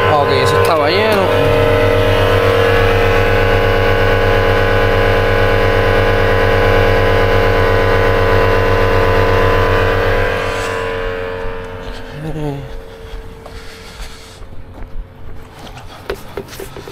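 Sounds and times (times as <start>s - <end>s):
motor humming with fast pulse: 0.0s - 16.9s.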